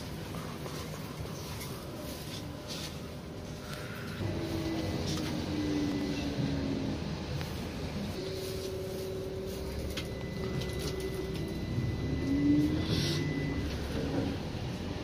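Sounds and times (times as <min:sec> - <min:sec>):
electric drive whine: 0:01.9 - 0:15.0
low running rumble: 0:01.9 - 0:15.0.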